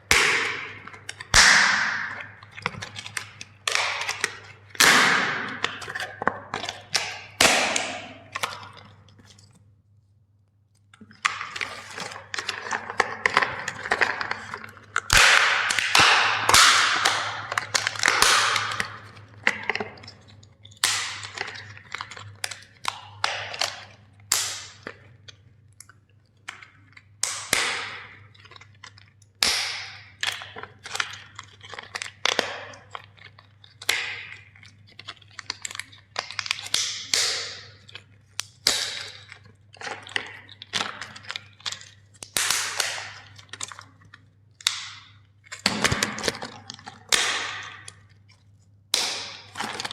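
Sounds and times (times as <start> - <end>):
plastic toys cracking and snapping: 0.0 - 9.5, 10.8 - 49.9.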